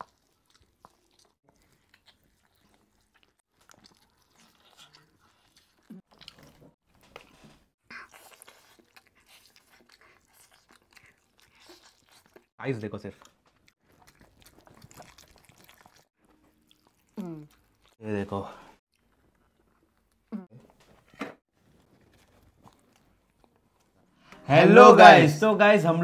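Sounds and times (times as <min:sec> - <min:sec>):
people chewing chicken: 0:00.0 - 0:24.1.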